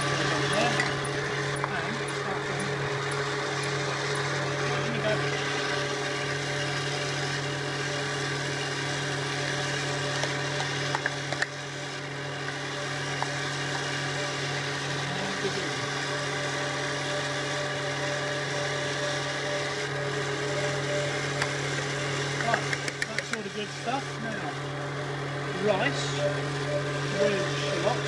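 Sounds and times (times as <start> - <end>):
food mixer motor running: 0.0 - 28.0.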